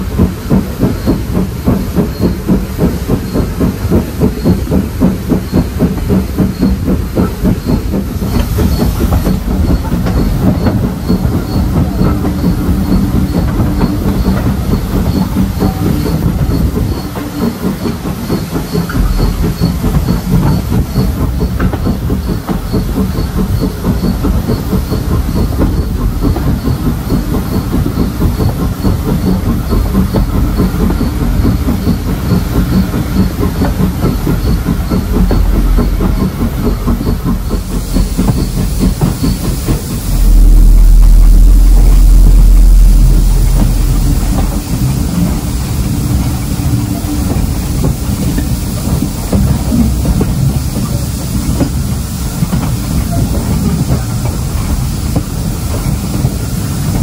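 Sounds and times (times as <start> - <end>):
steam hissing: 0.0 - 57.0
train wheels clicking over rail joints: 0.0 - 57.0.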